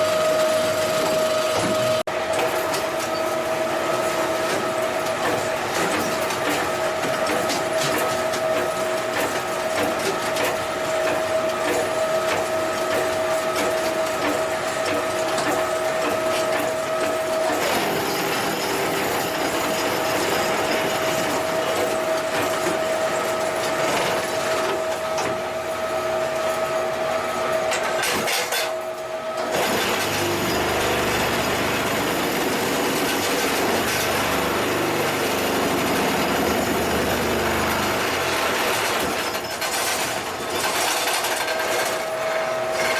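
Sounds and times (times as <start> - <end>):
block machine mechanical hum: 0.0 - 42.9
machine rattling and clanking: 1.0 - 25.5, 27.6 - 28.8, 29.4 - 42.9.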